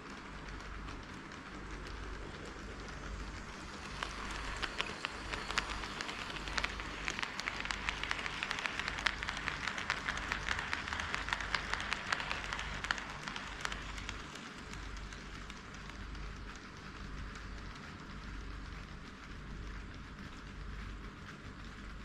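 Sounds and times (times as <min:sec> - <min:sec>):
model train wheels clicking on rails: 0:00.0 - 0:22.0.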